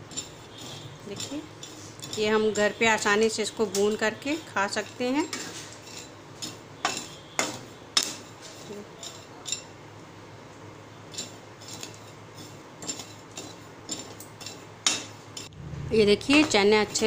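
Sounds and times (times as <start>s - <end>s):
spoon clinking and scraping in pan: 0.0s - 9.7s, 11.1s - 15.5s.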